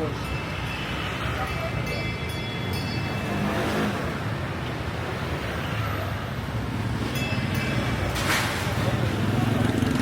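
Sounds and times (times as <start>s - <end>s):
traffic engine rumble: 0.0s - 10.0s.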